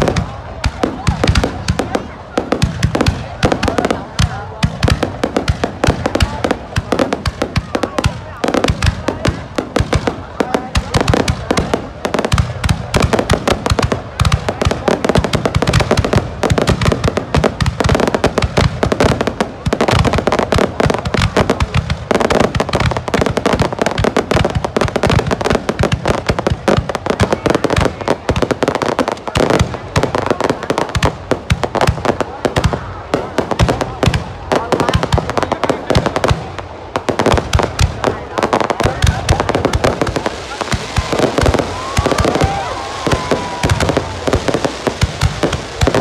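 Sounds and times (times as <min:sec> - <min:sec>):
firework shell bursts and crackles: 0:00.0 - 0:46.0.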